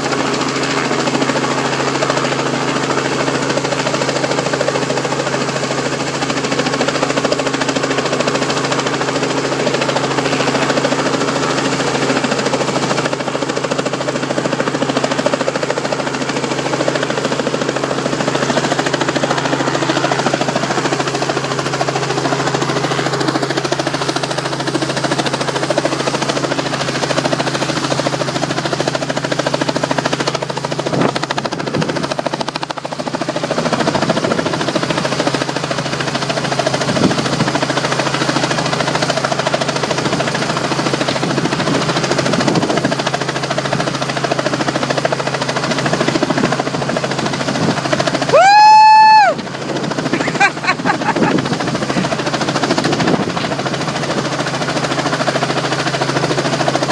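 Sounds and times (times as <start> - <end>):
helicopter rotor drone: 0.0 - 56.9.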